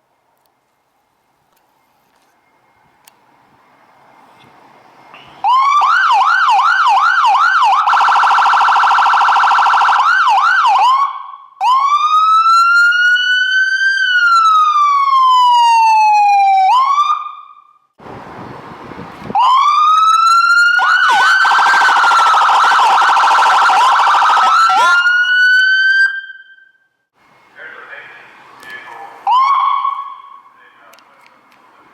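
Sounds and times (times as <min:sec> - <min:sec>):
ambulance siren: 0:02.2 - 0:31.1.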